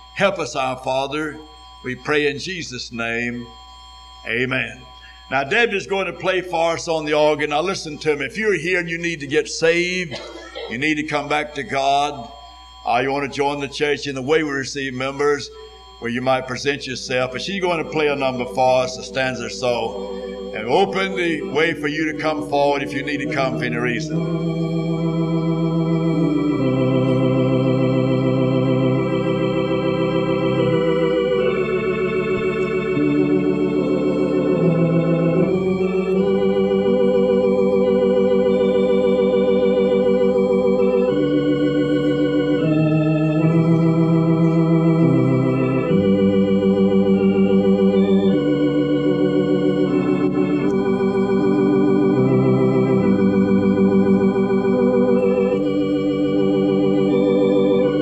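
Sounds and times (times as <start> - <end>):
organ playing a slow hymn: 0.0 - 58.0.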